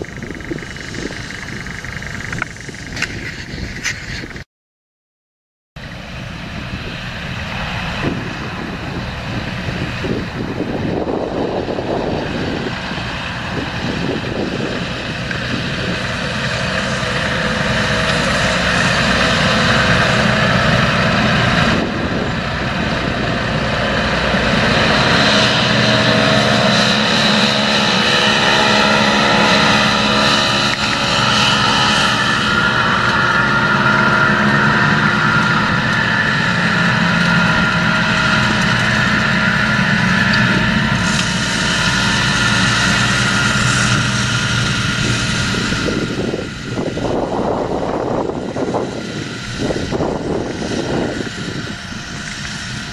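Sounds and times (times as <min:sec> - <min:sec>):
tractor diesel engine: 0:00.0 - 0:04.4, 0:05.8 - 0:52.9.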